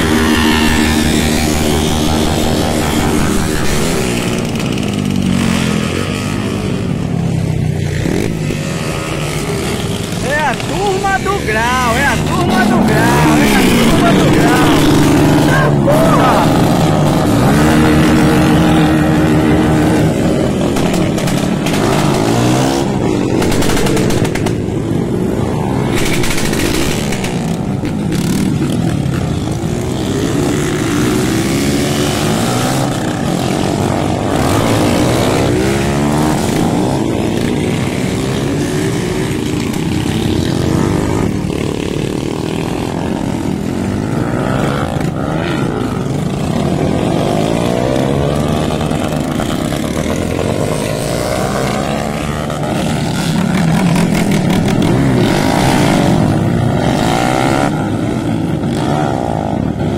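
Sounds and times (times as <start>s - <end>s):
motorcycles revving and accelerating: 0.0s - 59.9s.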